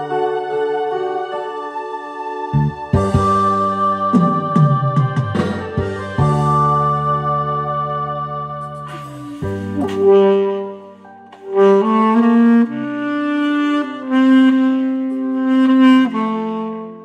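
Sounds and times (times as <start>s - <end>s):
keyboard backing track: 0.0s - 17.0s
saxophone slow melody: 0.0s - 17.0s.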